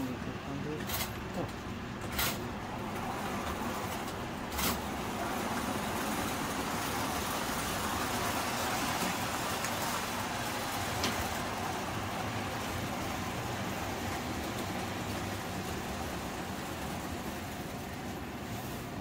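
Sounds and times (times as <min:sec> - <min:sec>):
toy trains rumbling on metal track: 0:00.7 - 0:18.6.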